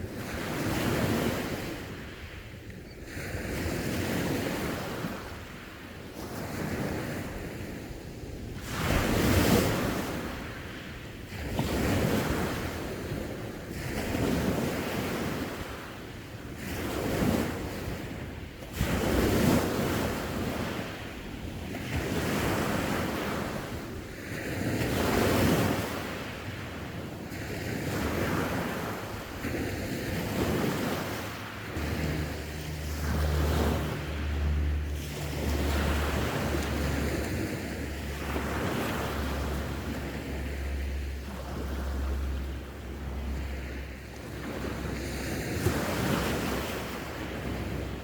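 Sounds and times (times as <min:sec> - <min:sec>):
ocean waves breaking on shore: 0:00.0 - 0:48.0
wind on microphone: 0:00.0 - 0:48.0.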